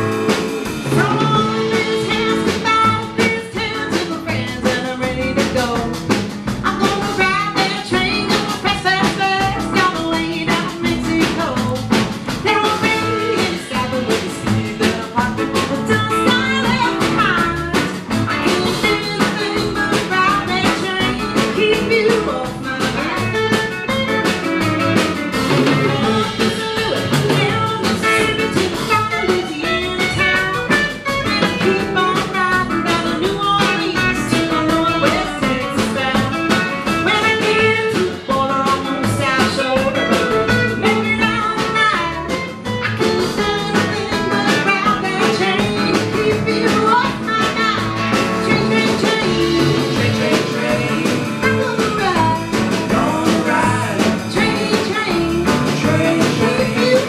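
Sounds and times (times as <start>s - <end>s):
second guitar: 0.0s - 57.0s
upright bass: 0.0s - 57.0s
woman singing: 0.8s - 57.0s.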